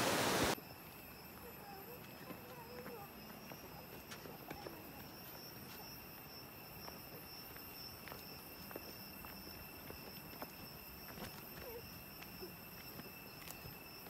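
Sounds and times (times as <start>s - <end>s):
high-pitched insect chorus: 0.1s - 14.0s
footsteps on dirt path: 2.0s - 14.0s.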